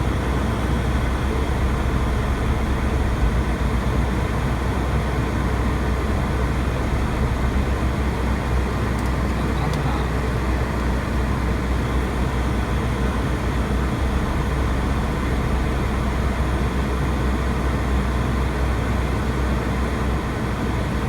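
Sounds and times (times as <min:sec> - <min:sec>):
car engine idling: 0:00.0 - 0:20.5.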